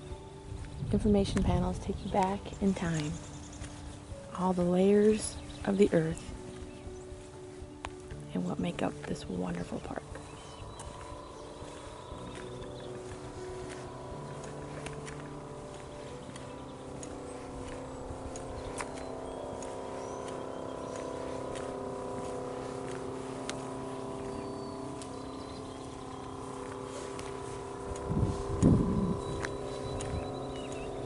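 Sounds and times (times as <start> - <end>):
motor-like hum: 0.0 - 31.0.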